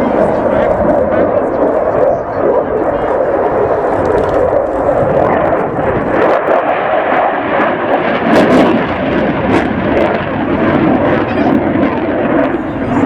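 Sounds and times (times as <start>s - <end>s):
fighter jet roaring: 0.0s - 13.0s.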